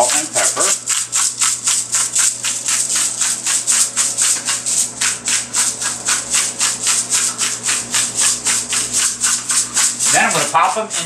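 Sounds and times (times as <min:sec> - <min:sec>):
pepper mill grinding rasps: 0:00.0 - 0:11.0.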